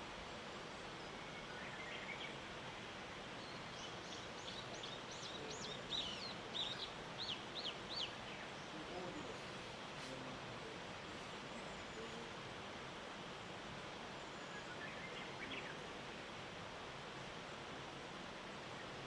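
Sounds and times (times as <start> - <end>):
songbird chirping: 0.0 - 12.7, 13.3 - 17.6
steady background hiss: 0.0 - 19.0.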